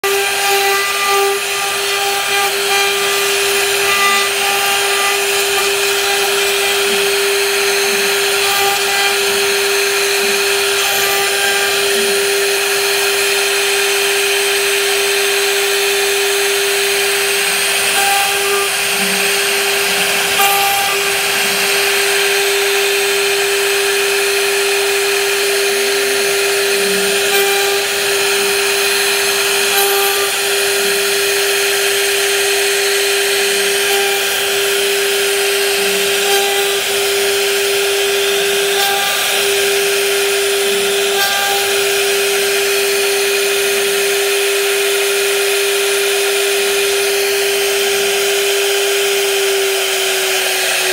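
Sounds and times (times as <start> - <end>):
router spindle whine: 0.0 - 50.9.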